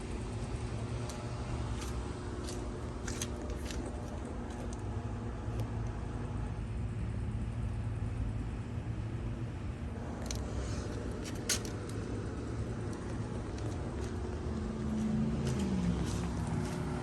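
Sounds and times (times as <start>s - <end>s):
air conditioner units humming: 0.0s - 17.0s.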